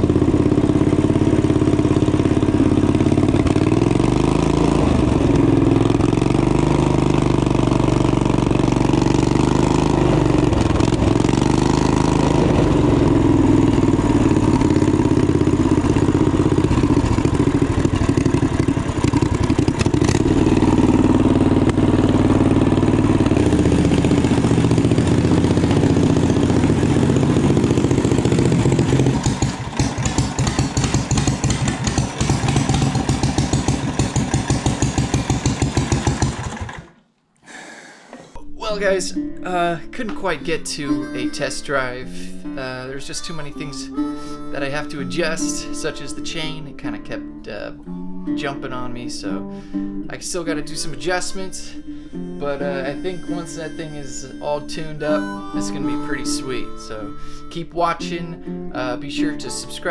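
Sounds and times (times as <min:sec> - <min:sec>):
motorcycle engine running: 0:00.0 - 0:37.0, 0:40.4 - 0:57.2.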